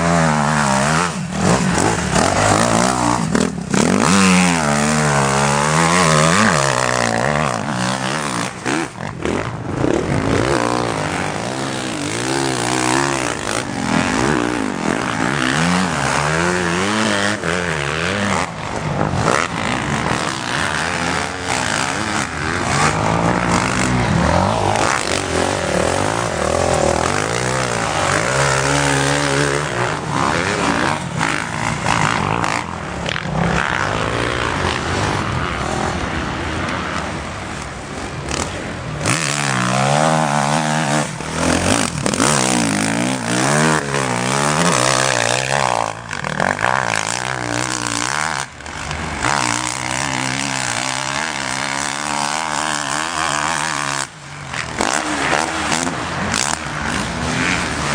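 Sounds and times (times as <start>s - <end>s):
motocross engines revving: 0.0s - 57.9s.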